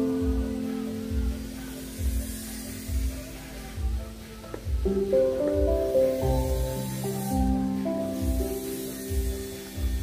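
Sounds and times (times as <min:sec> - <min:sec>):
low steady beat: 0:00.0 - 0:10.0
music with held notes: 0:00.0 - 0:10.0.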